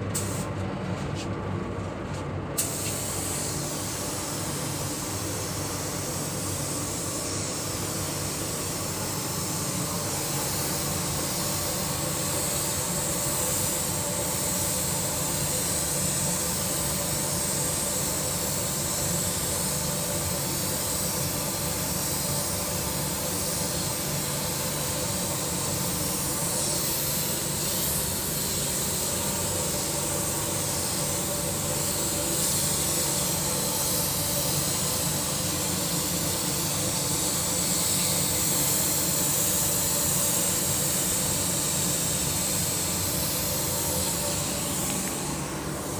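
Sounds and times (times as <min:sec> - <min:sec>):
spray gun air hiss: 0:00.0 - 0:01.2, 0:02.6 - 0:45.9
mechanical hum: 0:00.0 - 0:45.9.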